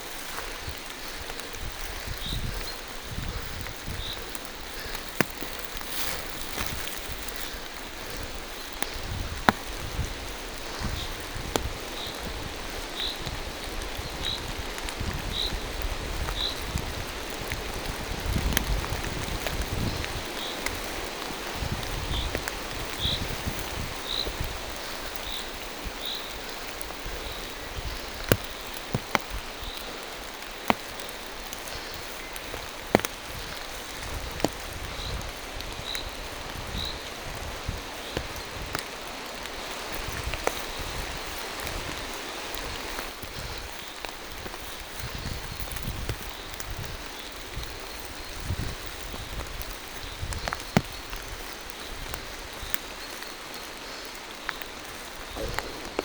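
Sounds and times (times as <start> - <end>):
rain falling through trees: 0.0 - 56.0.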